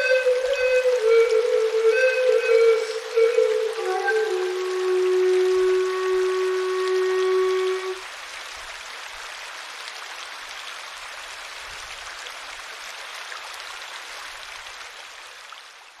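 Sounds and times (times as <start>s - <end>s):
water running over rocks: 0.0s - 16.0s.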